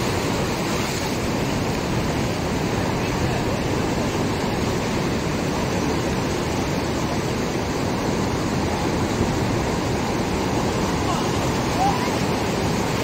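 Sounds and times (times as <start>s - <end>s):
surf breaking on rocky shore: 0.0s - 13.0s.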